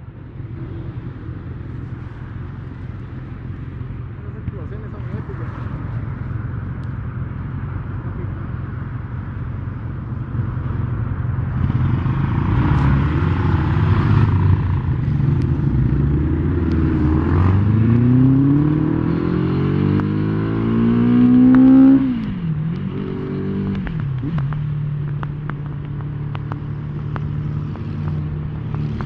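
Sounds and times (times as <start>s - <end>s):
motorcycle engines idling and revving: 0.0s - 29.0s.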